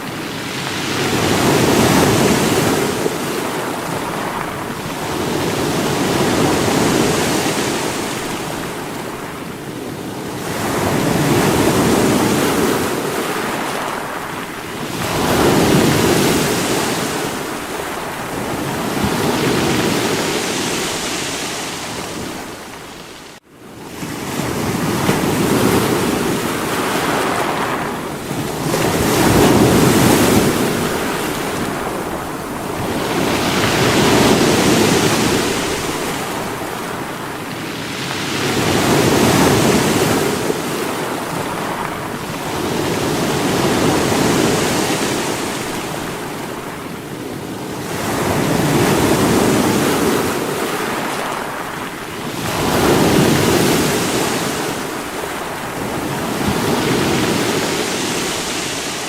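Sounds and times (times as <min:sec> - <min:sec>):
sea waves breaking against rocks: 0:00.0 - 0:59.0.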